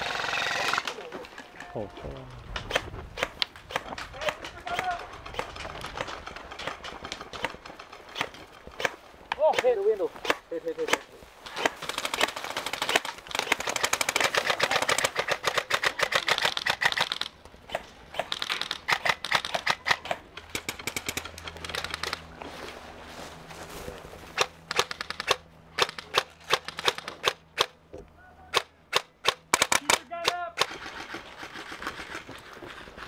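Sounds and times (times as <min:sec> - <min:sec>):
airsoft guns firing: 0:00.0 - 0:01.1, 0:02.6 - 0:22.2, 0:24.4 - 0:27.8, 0:28.5 - 0:32.3.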